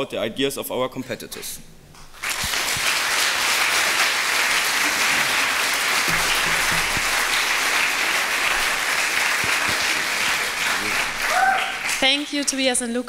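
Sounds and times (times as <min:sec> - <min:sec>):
audience applauding: 0:02.1 - 0:12.8.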